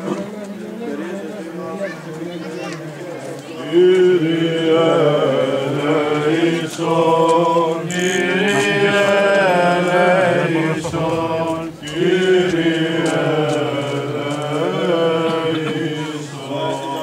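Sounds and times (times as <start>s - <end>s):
voices chanting: 1.4s - 17.0s.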